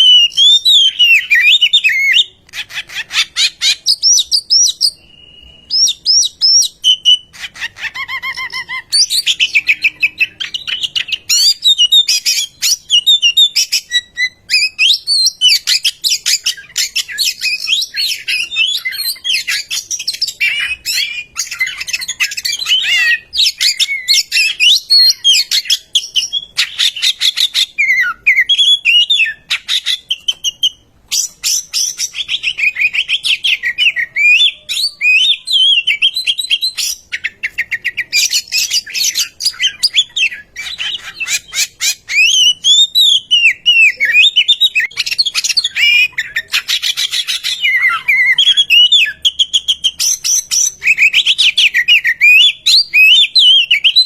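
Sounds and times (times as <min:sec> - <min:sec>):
bird singing whistled phrases: 0:00.0 - 0:54.0.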